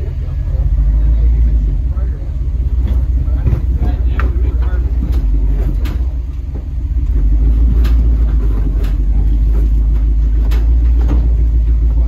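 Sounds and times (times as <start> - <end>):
truck engine rumbling under load: 0.0 - 12.0.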